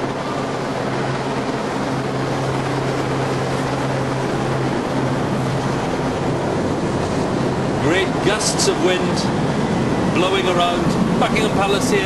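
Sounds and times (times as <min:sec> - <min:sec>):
helicopter rotor and engine: 0:00.0 - 0:12.0
wind on microphone: 0:00.0 - 0:12.0.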